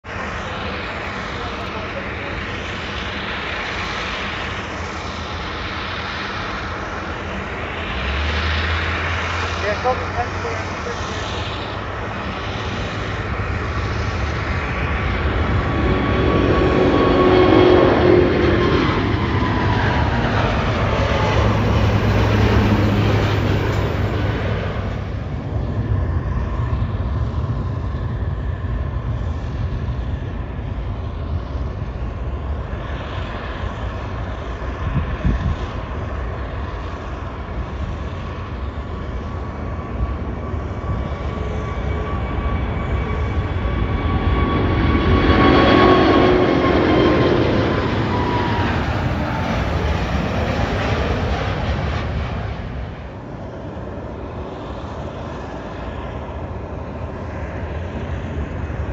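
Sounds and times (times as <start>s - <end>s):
distant jet rumble: 0.0s - 58.9s
jet airliner taking off: 0.0s - 58.9s.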